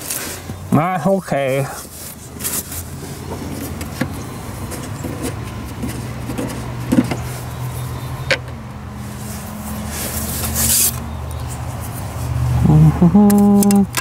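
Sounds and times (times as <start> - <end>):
low engine hum: 1.6 - 14.0.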